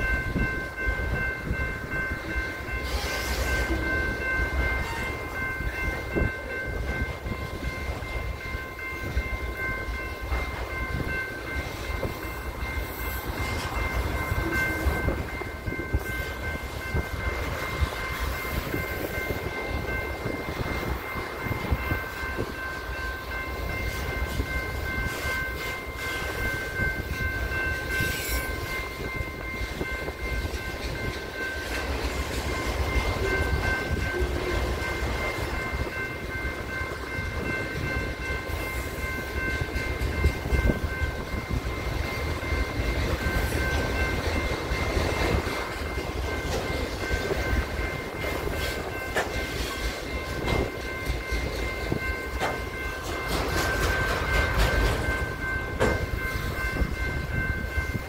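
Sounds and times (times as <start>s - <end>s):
crossing bell ringing: 0.0s - 58.0s
freight train wheels rumbling: 0.0s - 58.0s.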